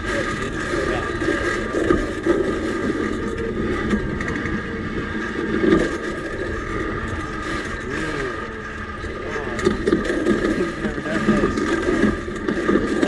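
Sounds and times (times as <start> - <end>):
constant high whine: 0.0 - 13.0
wheels rumbling and rattling on rails: 0.0 - 13.0.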